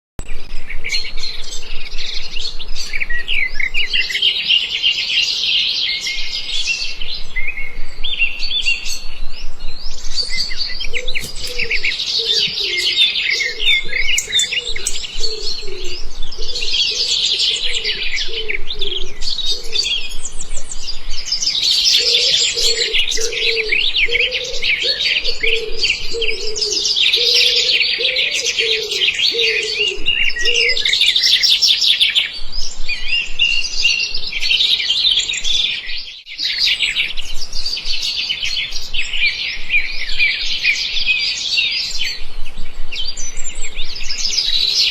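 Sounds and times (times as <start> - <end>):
flock of small birds chirping: 0.2 - 44.9.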